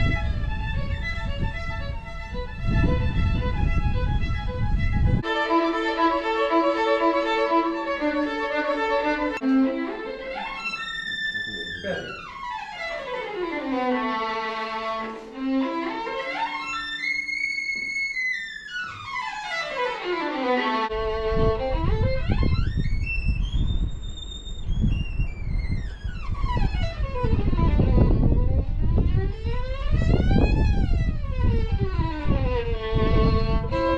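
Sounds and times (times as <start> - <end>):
violin sliding notes: 0.0 - 23.9, 24.8 - 33.9.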